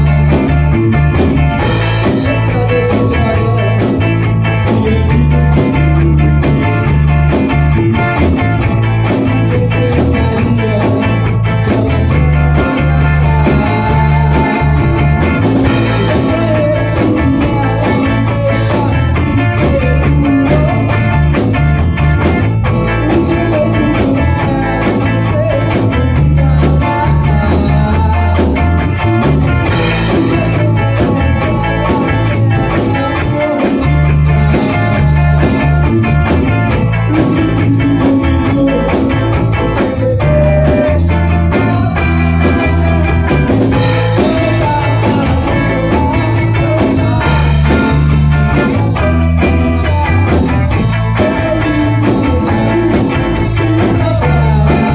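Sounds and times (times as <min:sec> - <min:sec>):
bass guitar: 0:00.0 - 0:54.9
drums with steady beat: 0:00.0 - 0:54.9
electric guitar lines: 0:00.0 - 0:54.9.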